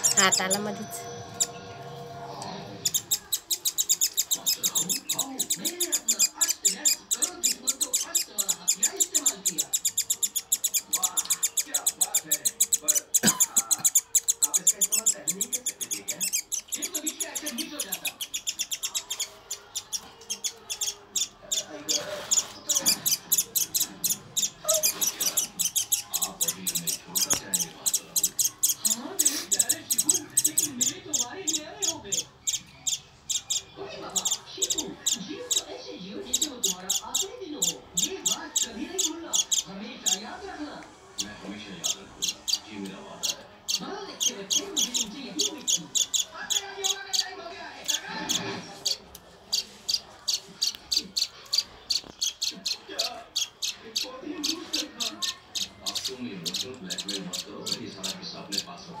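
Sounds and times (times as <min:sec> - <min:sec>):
baby bird chirping rapidly: 0:00.0 - 0:01.7, 0:02.7 - 0:40.4, 0:41.2 - 0:59.0.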